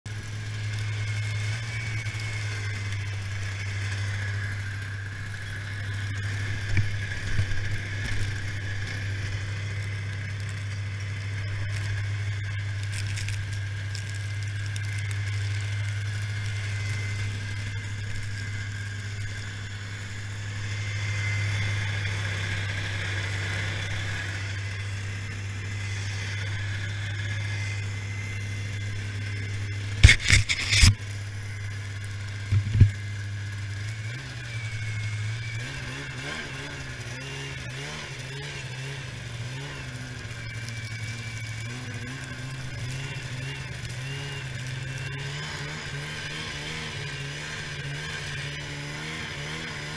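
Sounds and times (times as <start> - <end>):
snowmobile engine idling: 0.1 - 49.9.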